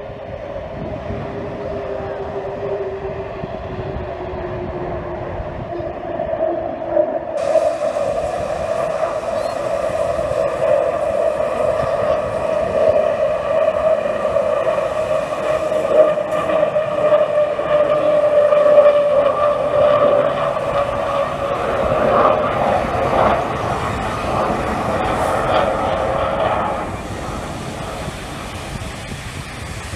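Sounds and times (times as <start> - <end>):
jet engines whining overhead: 0.0 - 29.9
wind buffeting microphone: 0.0 - 29.9.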